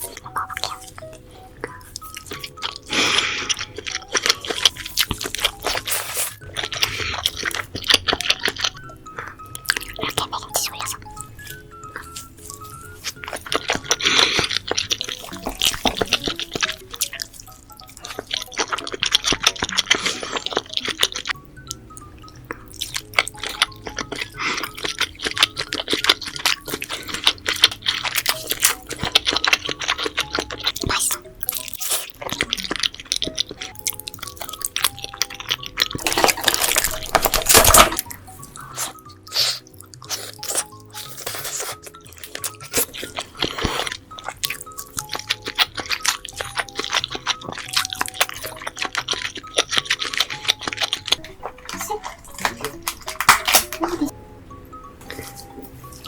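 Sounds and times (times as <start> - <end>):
seafood shell crackling: 0.0 - 54.1
wet sticky chewing: 0.0 - 54.2, 55.0 - 56.0
background music: 0.0 - 56.0.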